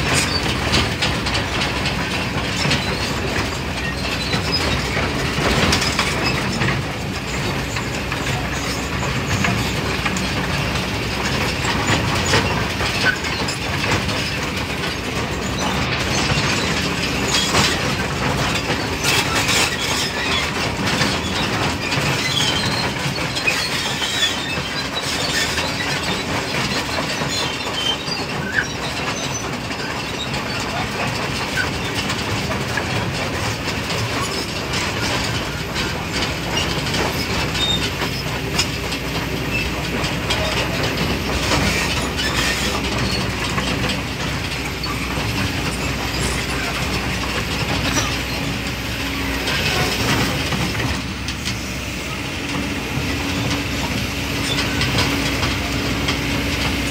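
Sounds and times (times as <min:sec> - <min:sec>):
excavator engine running: 0:00.0 - 0:56.9.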